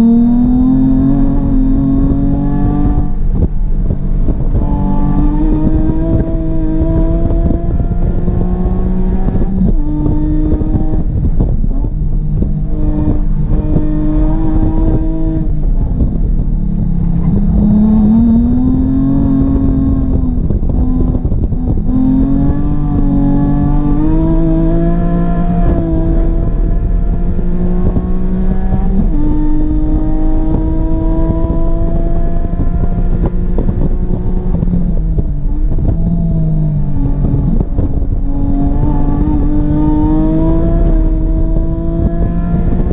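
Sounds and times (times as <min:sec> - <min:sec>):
race car engine accelerating: 0:00.0 - 0:42.9.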